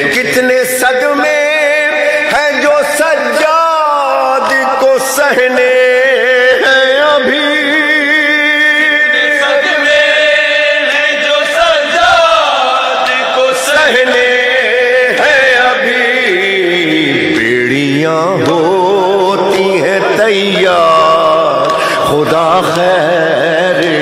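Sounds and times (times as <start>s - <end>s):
man chanting a lament: 0.0s - 24.0s.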